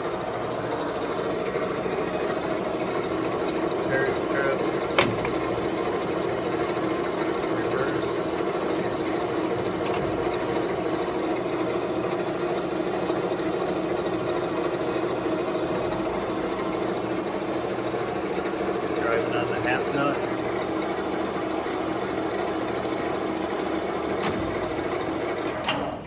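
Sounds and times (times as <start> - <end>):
lathe mechanical hum: 0.0 - 26.0.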